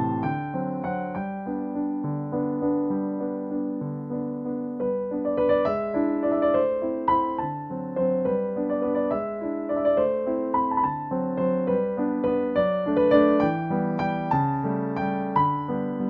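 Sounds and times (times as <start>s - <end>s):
gentle instrumental music: 0.0s - 16.0s.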